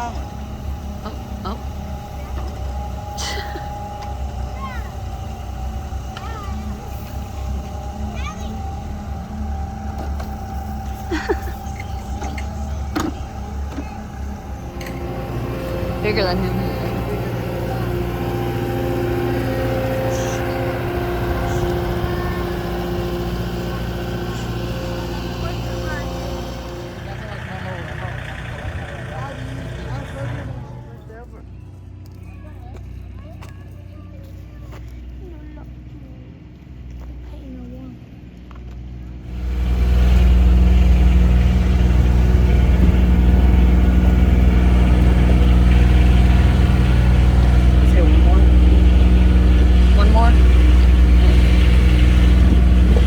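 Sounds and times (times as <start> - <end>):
construction machine engine running: 0.0 - 53.0.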